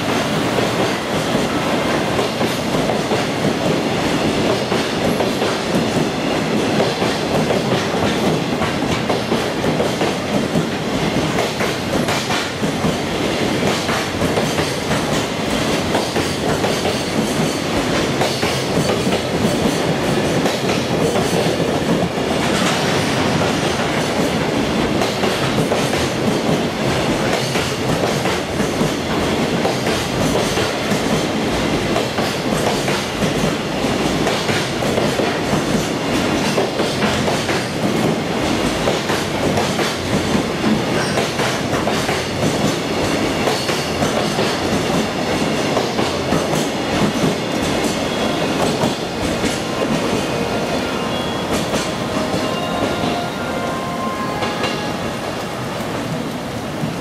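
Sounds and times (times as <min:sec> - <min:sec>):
train wheels clickety-clack: 0:00.0 - 0:53.2.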